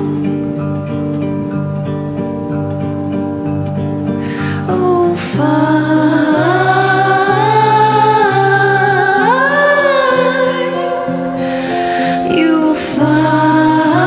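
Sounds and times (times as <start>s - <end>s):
slow electric guitar notes: 0.0s - 14.0s.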